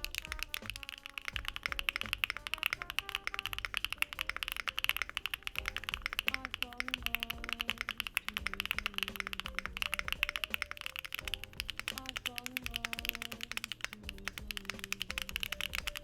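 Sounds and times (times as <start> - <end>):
jazz music: 0.0 - 16.0
typing on mechanical keyboard: 0.0 - 16.0.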